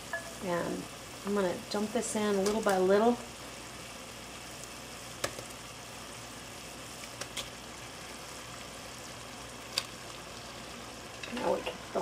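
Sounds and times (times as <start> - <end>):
onion and garlic sizzling in a pot: 0.0 - 12.0.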